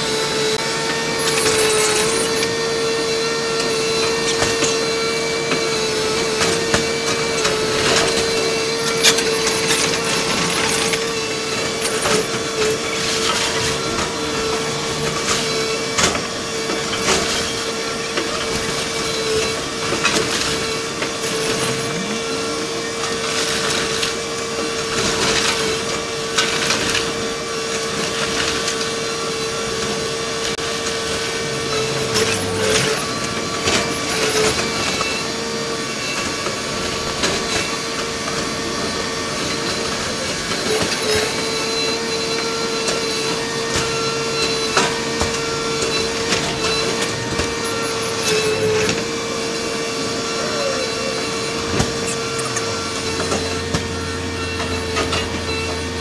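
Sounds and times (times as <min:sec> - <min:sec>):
excavator engine drone: 0:00.0 - 0:56.0.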